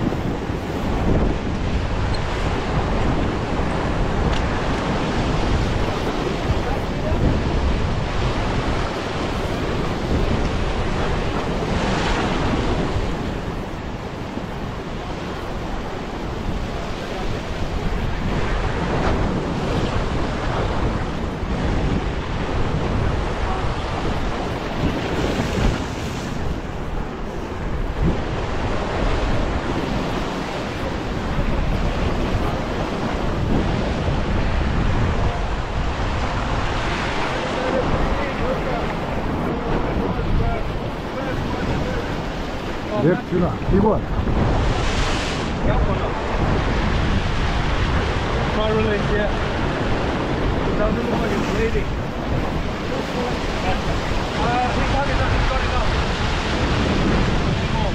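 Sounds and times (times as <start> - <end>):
ocean surf breaking over rocks: 0.0 - 57.9
wind rumbling on microphone: 0.0 - 57.9.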